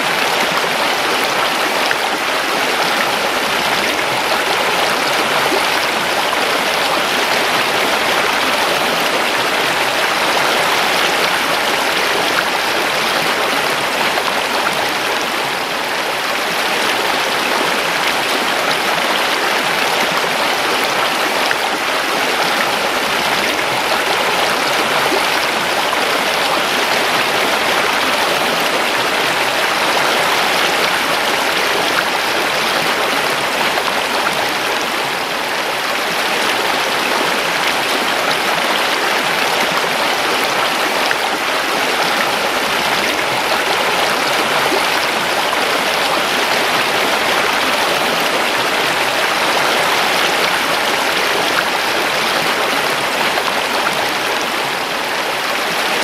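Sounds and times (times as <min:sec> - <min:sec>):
river water babbling over rocks: 0:00.0 - 0:56.0.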